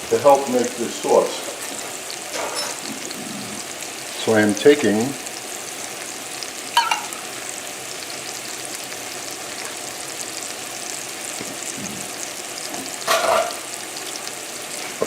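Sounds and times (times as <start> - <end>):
shrimp sizzling in a frying pan: 0.0 - 15.0.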